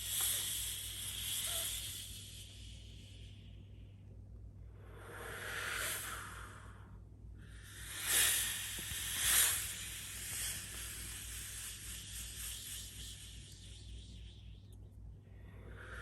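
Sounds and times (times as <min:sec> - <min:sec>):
breathy hissing: 0:00.0 - 0:03.8, 0:04.7 - 0:16.0
faint low hum: 0:00.0 - 0:16.0.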